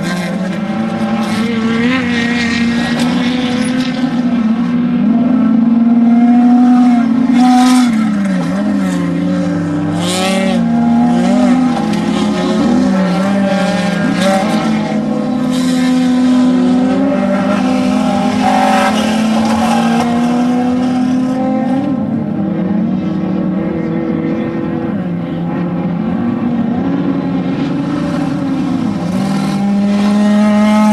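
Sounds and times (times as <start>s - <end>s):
race vehicle engines revving: 0.0s - 30.9s.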